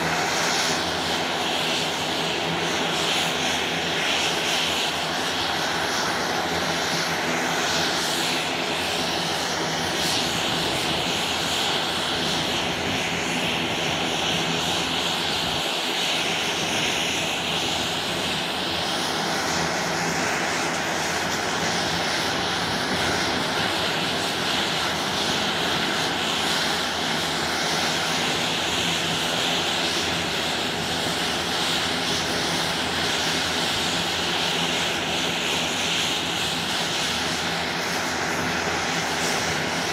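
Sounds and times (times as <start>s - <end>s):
propeller drone: 0.0s - 39.9s
turbine whine: 0.0s - 39.9s.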